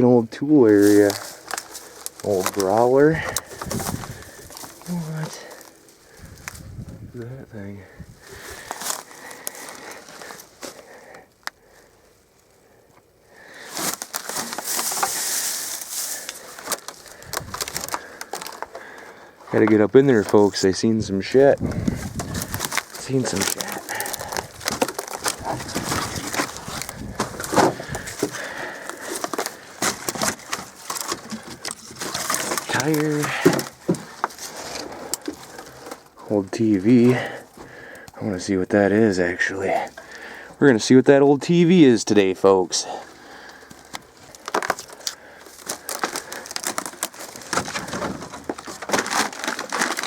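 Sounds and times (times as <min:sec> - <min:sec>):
crunching and crackling of wood: 0:00.0 - 0:50.0
person stepping through junk: 0:00.0 - 0:50.0.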